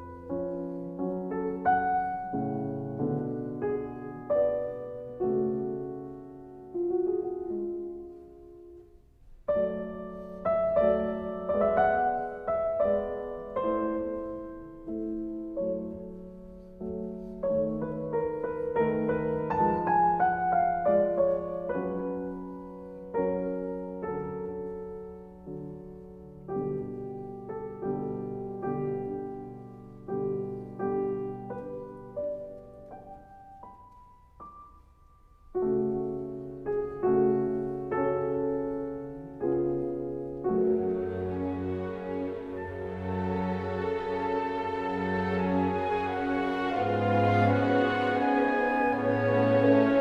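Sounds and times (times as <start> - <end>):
gentle solo piano: 0.0 - 50.0.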